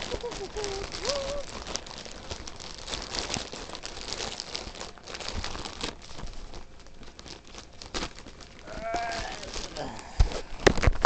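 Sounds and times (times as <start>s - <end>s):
packaging crackling and rustling: 0.0s - 11.0s.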